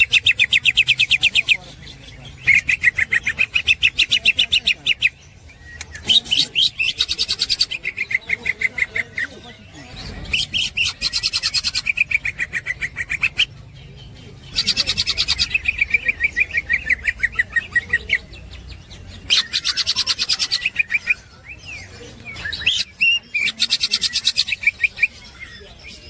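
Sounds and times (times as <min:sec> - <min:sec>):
bird singing fast chattering song: 0:00.0 - 0:26.0.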